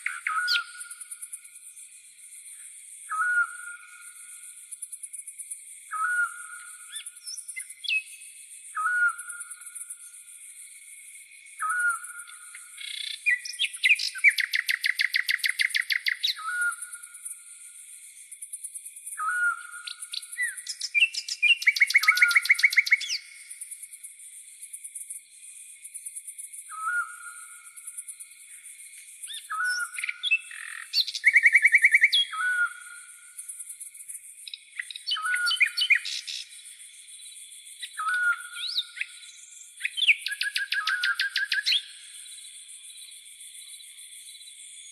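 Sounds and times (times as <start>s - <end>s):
crickets chirring: 0.0s - 44.9s.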